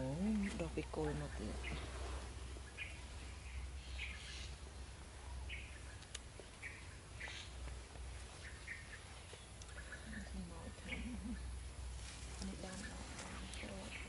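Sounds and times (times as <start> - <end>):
low steady rumble: 0.0 - 14.0
small birds chirping: 0.0 - 14.0.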